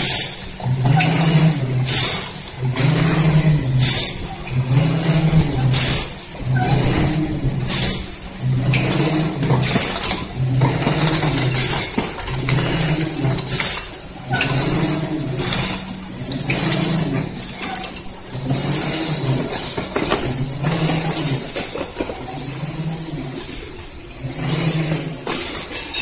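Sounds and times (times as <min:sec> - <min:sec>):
cartoning machine clatter: 0:00.0 - 0:26.0
low machine hum: 0:00.0 - 0:26.0.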